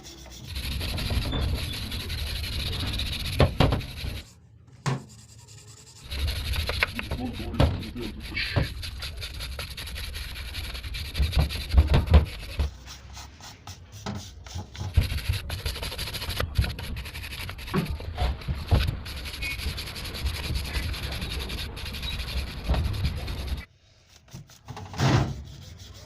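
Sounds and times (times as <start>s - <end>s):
brush scrubbing engine part: 0.0s - 4.3s, 4.9s - 26.0s.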